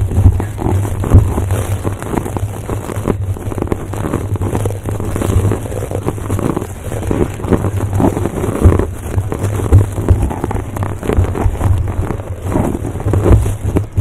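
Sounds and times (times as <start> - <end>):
microphone rubbing rumble: 0.0 - 14.0
scratching against microphone: 0.0 - 14.0.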